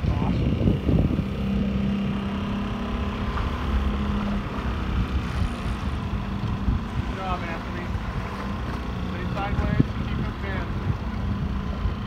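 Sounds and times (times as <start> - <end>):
boat motor humming: 0.0 - 12.0
wind rumble on microphone: 0.0 - 12.0.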